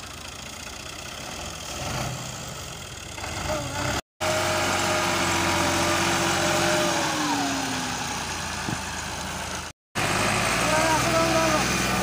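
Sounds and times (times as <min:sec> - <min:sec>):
tractor diesel engine labouring: 0:00.0 - 0:12.0.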